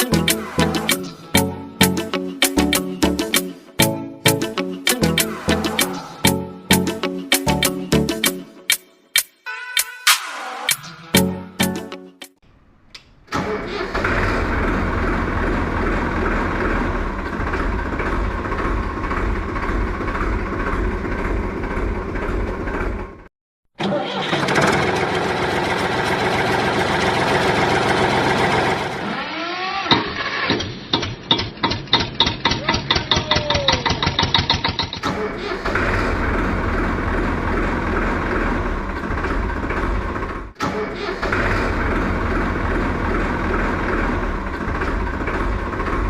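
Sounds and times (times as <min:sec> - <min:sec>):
tractor engine running: 0:00.0 - 0:08.3, 0:13.3 - 0:29.2, 0:30.8 - 0:46.0.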